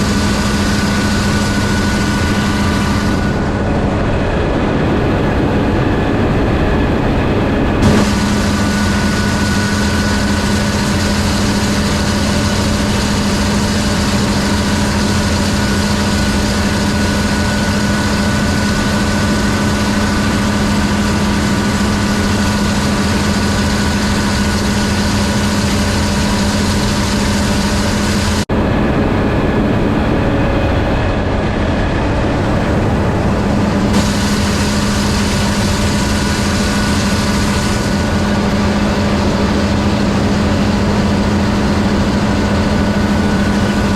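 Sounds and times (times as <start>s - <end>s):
combine harvester engine hum: 0.0s - 43.9s.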